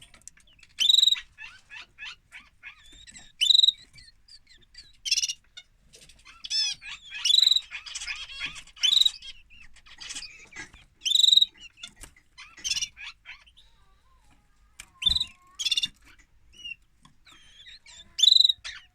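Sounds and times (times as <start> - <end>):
canary chirps and trills: 0.0 - 18.9.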